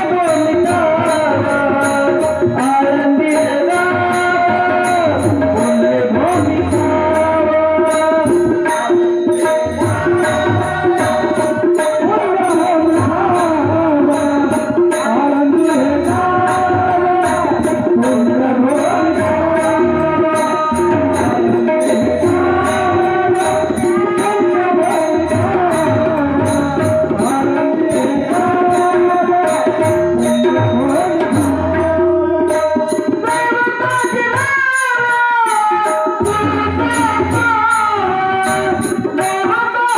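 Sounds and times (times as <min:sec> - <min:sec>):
tabla beat: 0:00.0 - 0:39.9.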